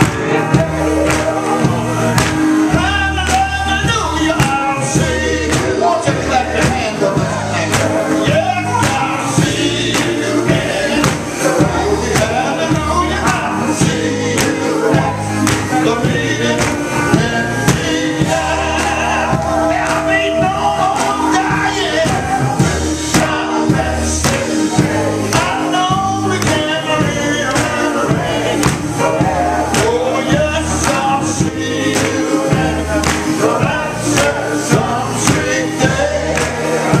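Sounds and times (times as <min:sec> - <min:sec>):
instrumental backing with beat: 0:00.0 - 0:37.0
male voices singing in harmony: 0:00.0 - 0:37.0.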